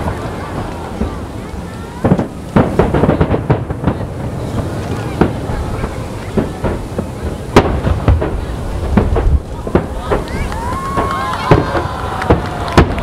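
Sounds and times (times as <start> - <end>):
firework shells bursting: 0.0 - 13.0
steady low rumble: 0.0 - 13.0.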